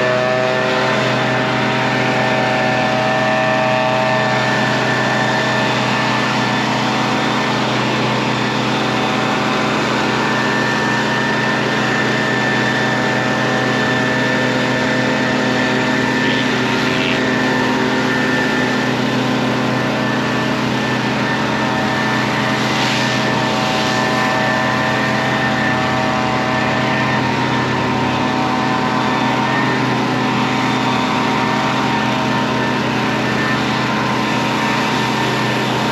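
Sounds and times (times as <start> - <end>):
pressure washer engine running: 0.0 - 35.9.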